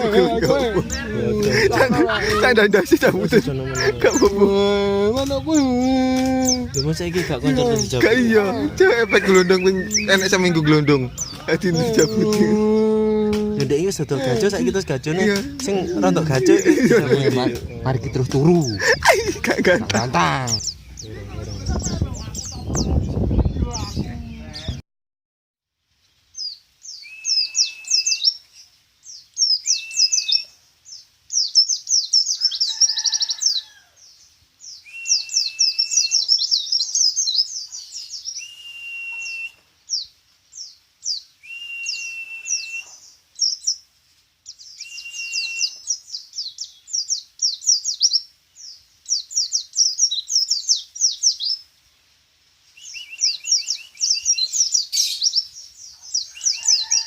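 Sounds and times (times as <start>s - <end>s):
songbird singing chirps and trills: 0.0s - 24.8s, 25.8s - 57.0s.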